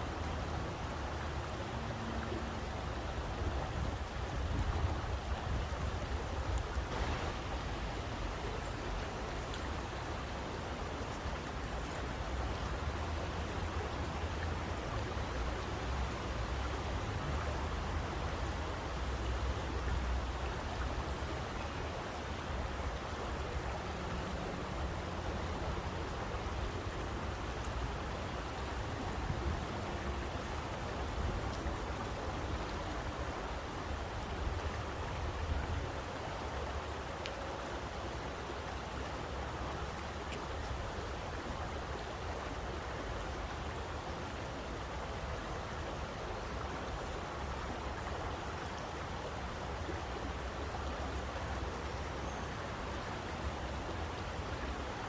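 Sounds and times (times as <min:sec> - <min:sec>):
rushing water with low rumble: 0:00.0 - 0:55.0.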